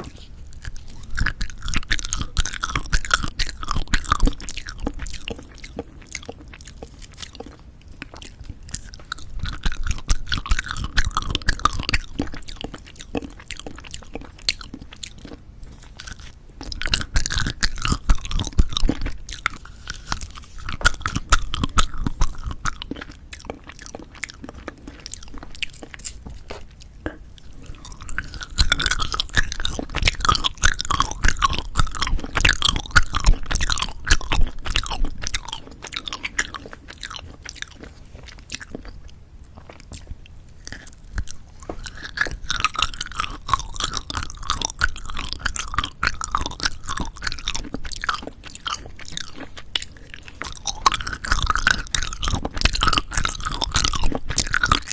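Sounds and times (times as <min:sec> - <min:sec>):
wet chewing of candy: 0:00.0 - 0:54.9.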